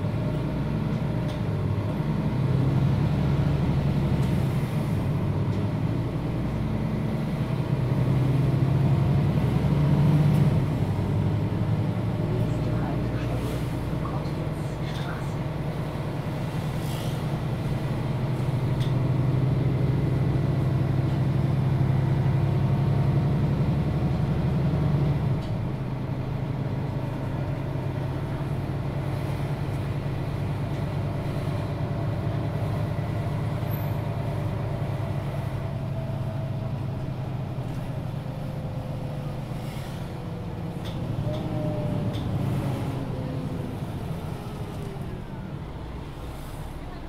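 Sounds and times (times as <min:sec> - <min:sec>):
bus diesel engine droning: 0:00.0 - 0:47.0.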